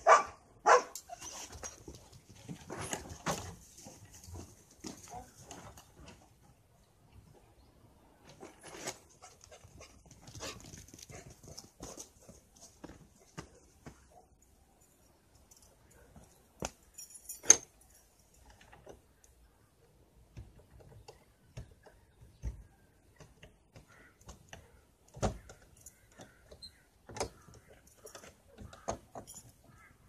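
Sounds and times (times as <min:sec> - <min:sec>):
clicks and knocks of objects handled: 0:00.9 - 0:06.6, 0:08.2 - 0:19.5, 0:20.2 - 0:30.0.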